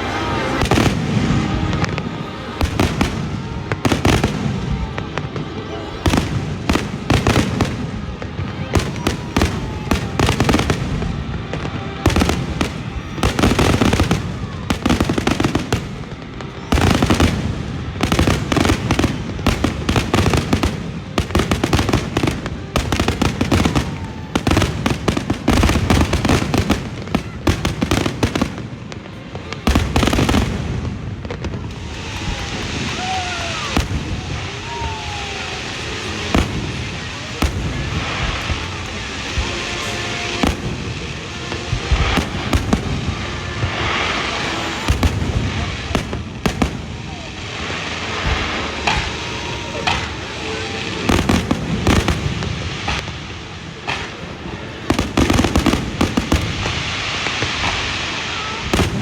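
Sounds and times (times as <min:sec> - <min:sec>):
fireworks bangs and crackling: 0:00.0 - 0:59.0
fireworks crackling hiss: 0:00.0 - 0:59.0
fireworks whistling: 0:00.0 - 0:59.0.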